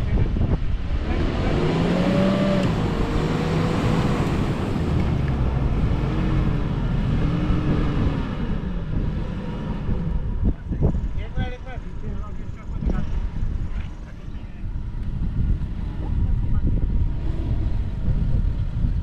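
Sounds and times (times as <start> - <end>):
off-road engine revving: 0.0 - 19.0.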